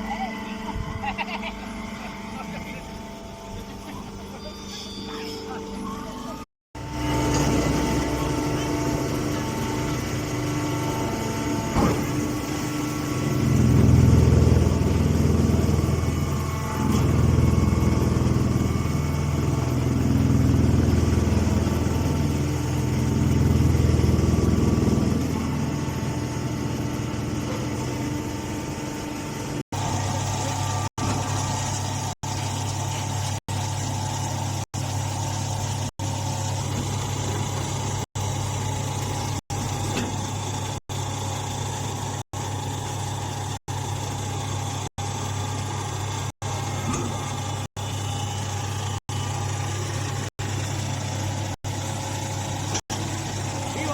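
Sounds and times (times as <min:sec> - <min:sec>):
baler engine running: 0:05.5 - 0:53.9.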